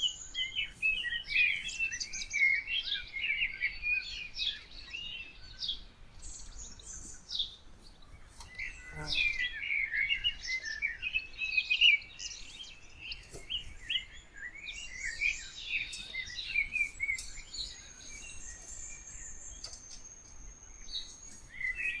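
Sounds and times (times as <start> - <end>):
songbirds chirping and warbling: 0.0 - 22.0.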